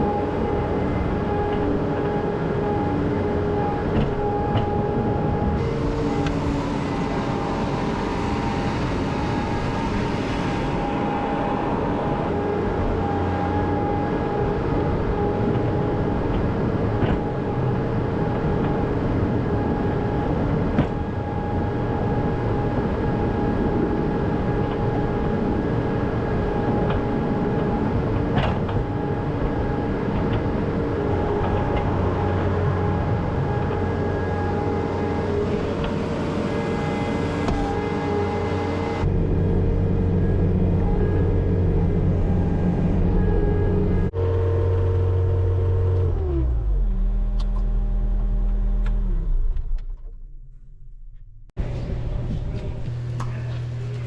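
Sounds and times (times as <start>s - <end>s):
machine humming steadily: 0.0s - 54.0s.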